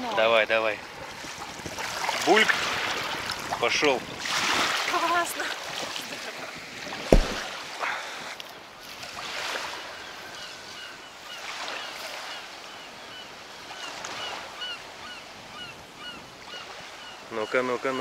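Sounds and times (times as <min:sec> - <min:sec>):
small waves lapping on sand: 0:00.0 - 0:18.0
wind: 0:00.0 - 0:18.0.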